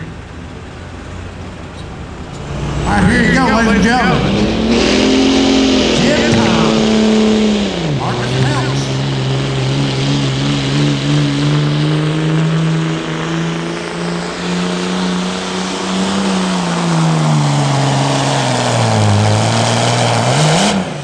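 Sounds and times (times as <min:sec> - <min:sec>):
diesel truck engine at full throttle: 0:00.0 - 0:21.0.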